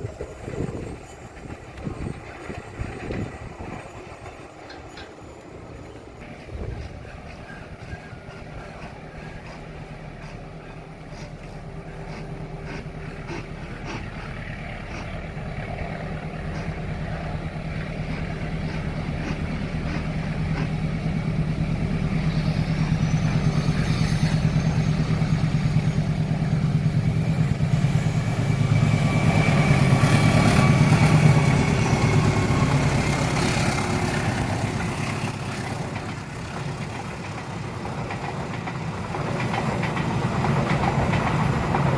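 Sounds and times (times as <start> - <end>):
diesel locomotive engine hum: 0.0 - 41.9.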